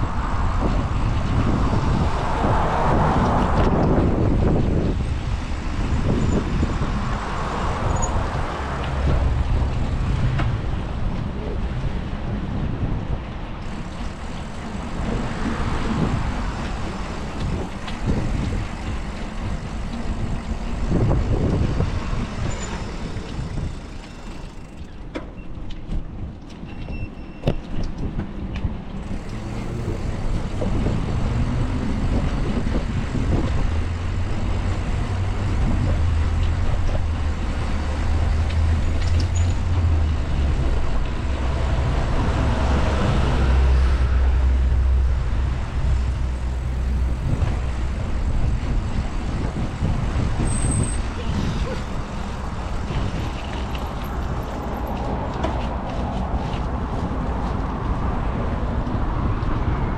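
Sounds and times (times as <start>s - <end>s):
large vehicle engine humming: 0.0s - 59.9s
road traffic: 0.0s - 59.9s
wind buffeting microphone: 0.0s - 59.9s.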